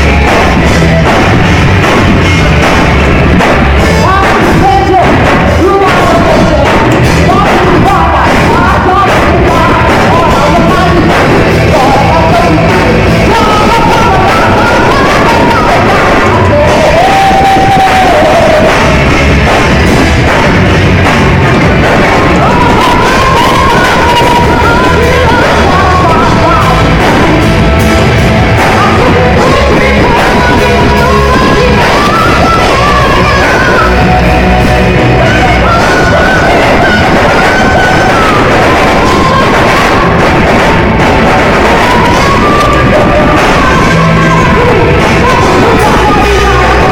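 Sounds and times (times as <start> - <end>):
person singing: 0.0 - 46.9
rock band playing: 0.0 - 46.9.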